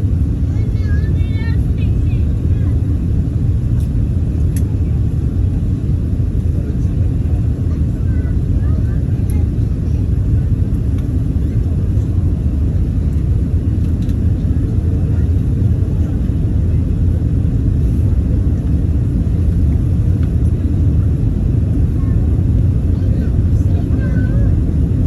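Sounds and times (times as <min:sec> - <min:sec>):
airplane cabin engine rumble: 0:00.0 - 0:25.0.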